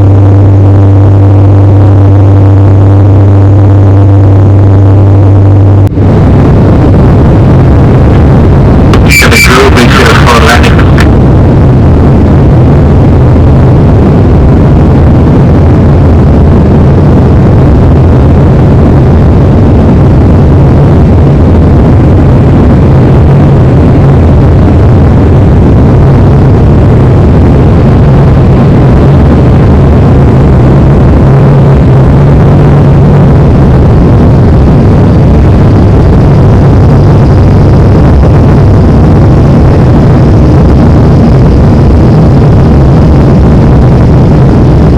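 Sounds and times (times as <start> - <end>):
airliner engine roar: 0.0 - 44.9
faint high whine: 0.0 - 44.9.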